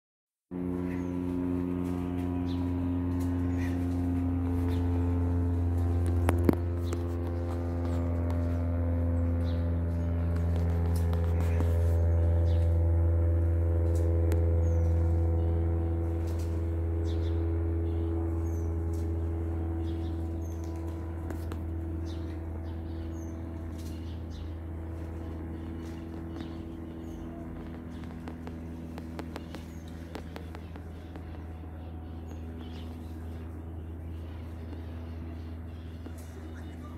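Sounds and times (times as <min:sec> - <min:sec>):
propeller plane engine drone: 0:00.5 - 0:36.9
birds chirping: 0:00.6 - 0:36.9.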